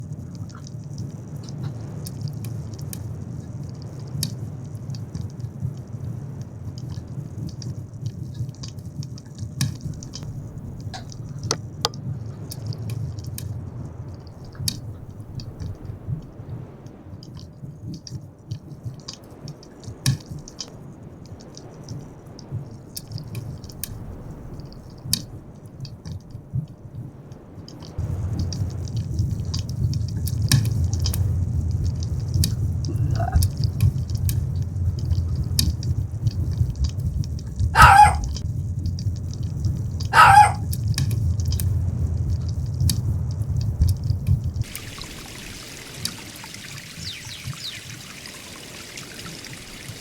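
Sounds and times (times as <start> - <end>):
low steady rumble: 0.0 - 17.0, 19.8 - 50.0
wood fire crackling: 0.0 - 50.0.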